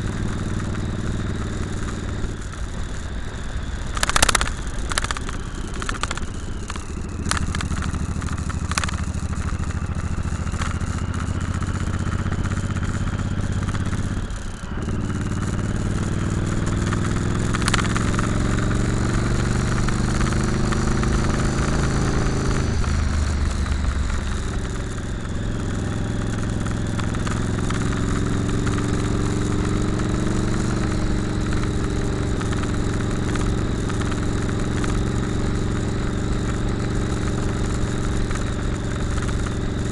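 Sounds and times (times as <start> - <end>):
motorcycle engine: 0.0 - 39.9
steady rush of noise: 0.0 - 39.9.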